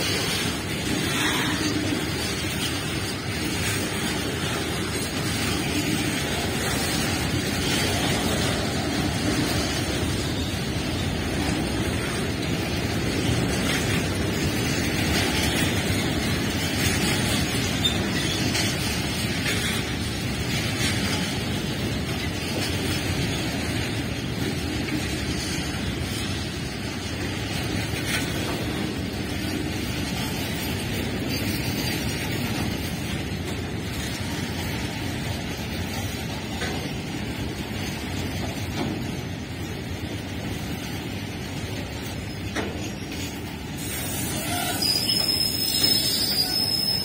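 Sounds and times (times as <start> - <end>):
train wheels running on rails: 0.0 - 47.0.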